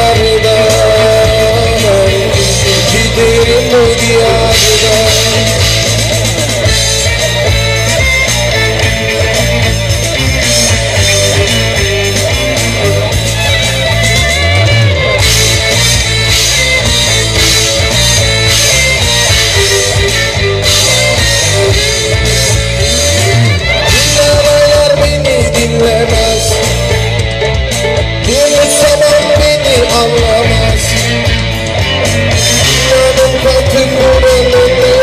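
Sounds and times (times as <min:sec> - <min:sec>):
bass guitar: 0:00.0 - 0:35.0
drum kit: 0:00.0 - 0:35.0
electric guitar: 0:00.0 - 0:35.0.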